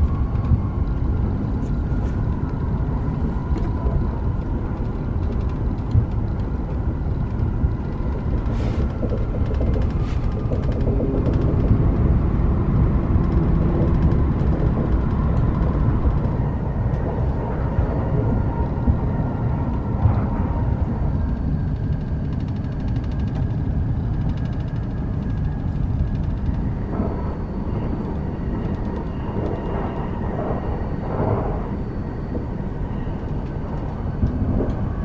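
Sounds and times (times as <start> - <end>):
train cabin low rumble: 0.0 - 35.0.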